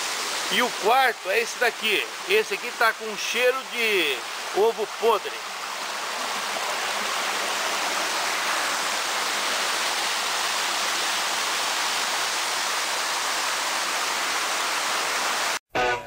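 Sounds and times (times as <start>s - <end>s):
stream rushing over rocks: 0.0s - 15.6s.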